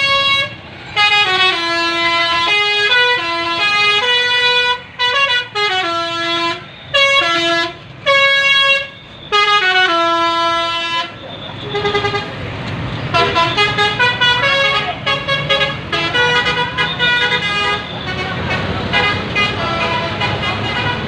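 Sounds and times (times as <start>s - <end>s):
musical air horn melody: 0.0s - 12.3s, 13.1s - 21.0s.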